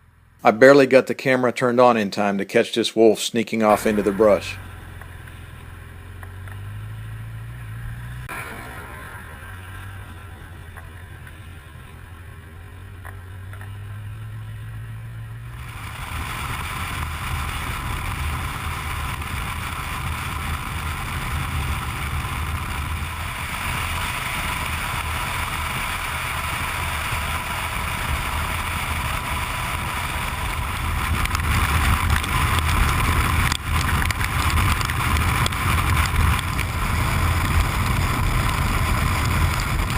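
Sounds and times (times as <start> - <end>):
motorcycle engine humming: 0.0 - 1.8, 3.6 - 39.9
wind and road noise: 0.0 - 39.9.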